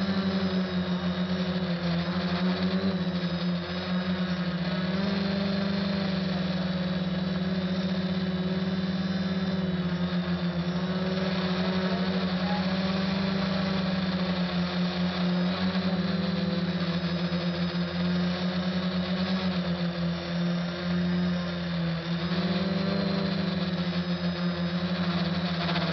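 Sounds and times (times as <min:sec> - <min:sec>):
quadcopter motors humming: 0:00.0 - 0:25.9.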